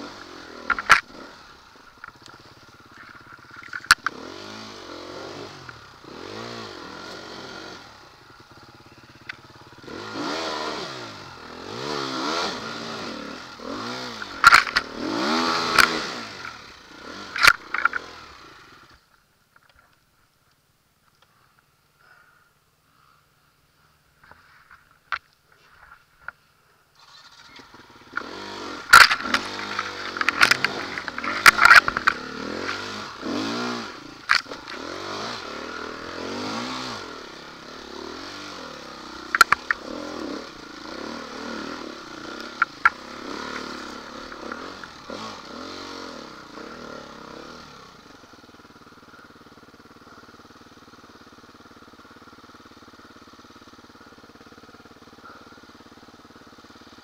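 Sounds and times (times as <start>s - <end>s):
motorcycle engine revving: 0.0s - 19.1s, 27.0s - 57.0s.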